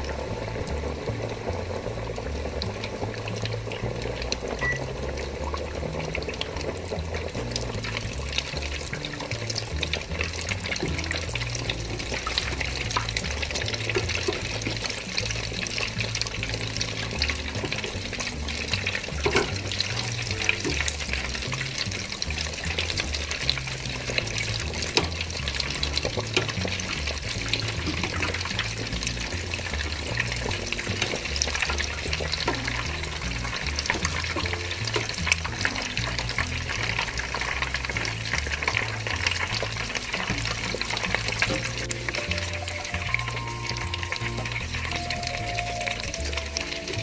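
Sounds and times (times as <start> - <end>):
food deep-frying in oil: 0.0 - 47.0
wire skimmer moving through oil: 5.2 - 43.4.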